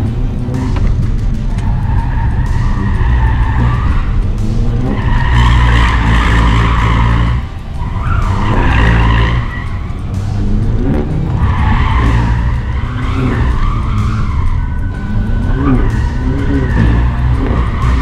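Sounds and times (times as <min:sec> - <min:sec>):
car engine working hard: 0:00.0 - 0:18.0
tyres squealing: 0:00.4 - 0:18.0.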